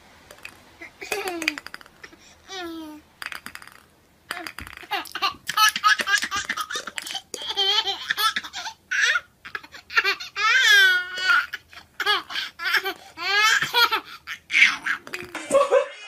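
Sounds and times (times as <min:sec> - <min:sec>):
baby laughing: 0:00.8 - 0:03.0, 0:04.3 - 0:16.0.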